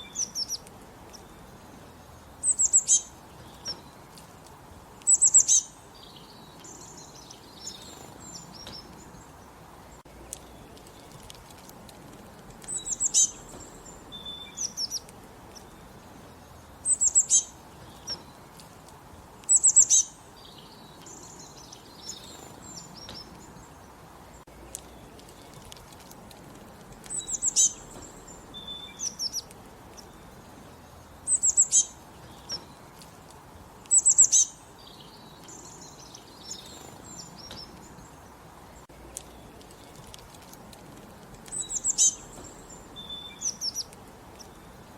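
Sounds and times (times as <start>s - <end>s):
faint bird chirps: 0.0s - 4.2s, 5.0s - 11.5s, 12.6s - 18.6s, 19.4s - 25.9s, 27.0s - 33.2s, 33.8s - 40.6s, 41.4s - 44.9s.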